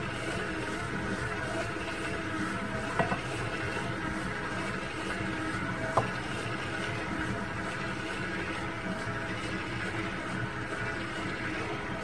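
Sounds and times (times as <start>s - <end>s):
stand mixer running: 0.0s - 12.0s.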